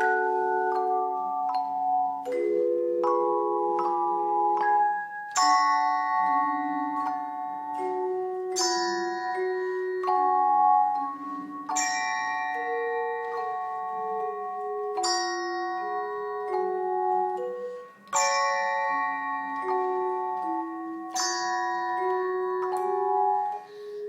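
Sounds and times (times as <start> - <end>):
bell ensemble playing a melody: 0.0 - 24.0.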